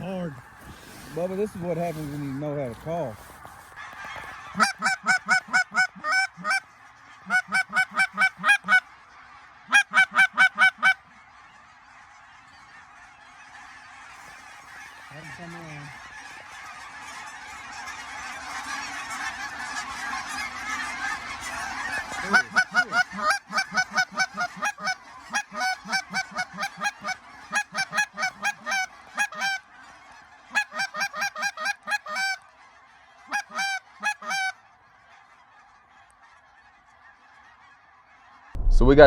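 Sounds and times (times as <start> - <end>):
close goose honks: 0.0 - 38.6
flock of geese honking: 0.0 - 38.6.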